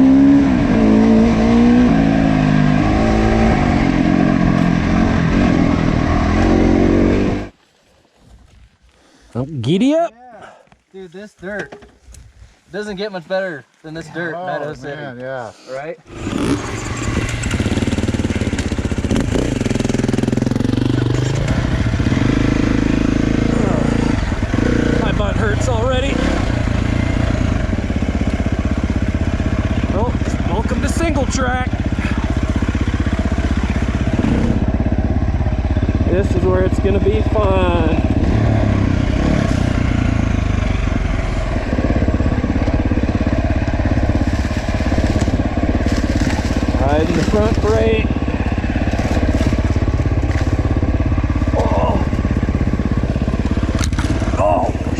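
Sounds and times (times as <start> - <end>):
dirt bike engine revving: 0.0 - 7.6, 16.0 - 54.9.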